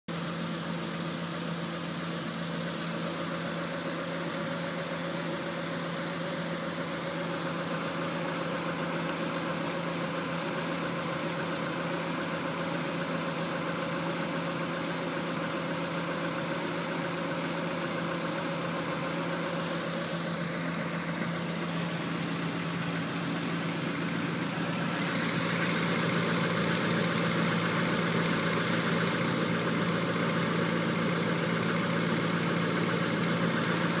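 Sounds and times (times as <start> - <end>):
car engine idling roughly: 0.1 - 34.0.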